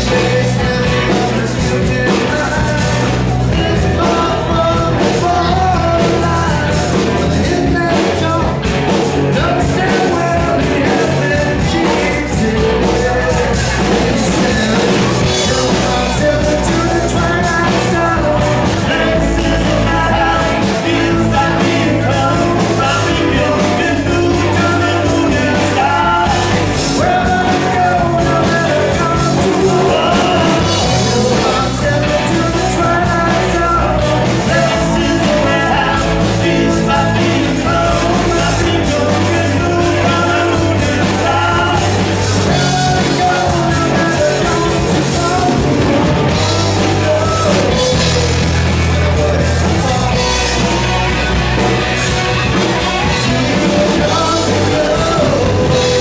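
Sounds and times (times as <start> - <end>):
lead vocals: 0.0 - 56.0
live rock band playing: 0.0 - 56.0.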